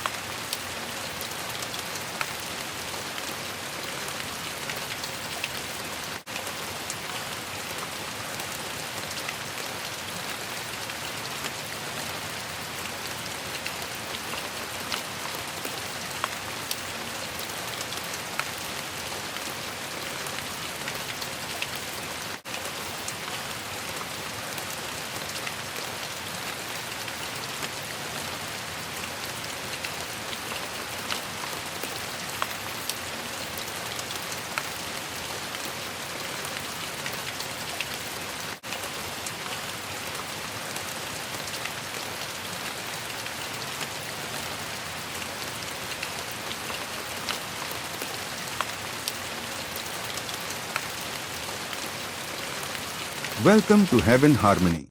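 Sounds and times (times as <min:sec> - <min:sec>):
steady rainfall: 0:00.0 - 0:54.9.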